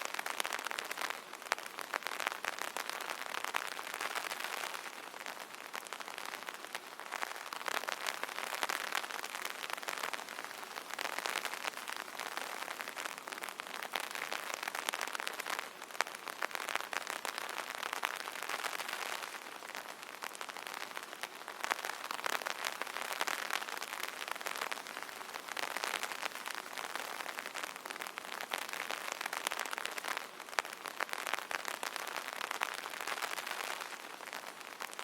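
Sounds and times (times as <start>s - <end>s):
rain on an umbrella: 0.0s - 35.0s.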